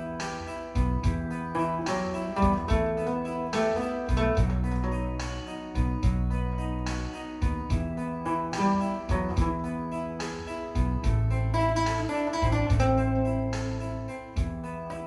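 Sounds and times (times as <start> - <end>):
acoustic guitar strumming: 0.0 - 15.0
light keyboard backing: 0.0 - 15.0
sustained bass notes: 0.8 - 15.0.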